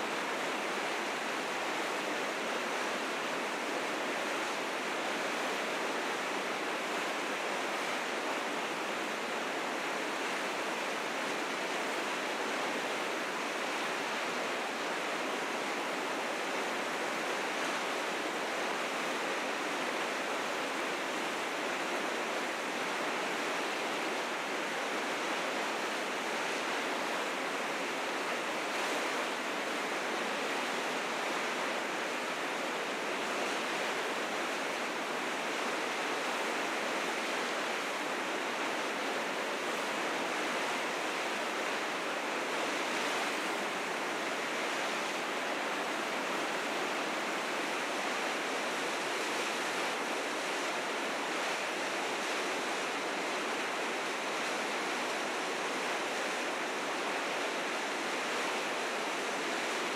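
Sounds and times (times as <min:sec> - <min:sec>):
river rapids roaring: 0:00.0 - 0:59.9.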